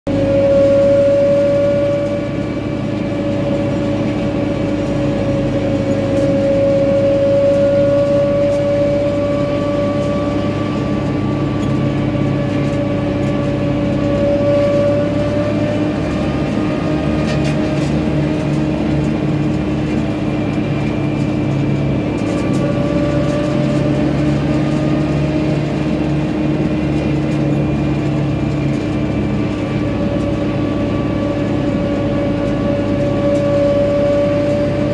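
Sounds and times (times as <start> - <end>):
tractor engine droning: 0.1 - 34.9
wavering whine: 0.1 - 34.9.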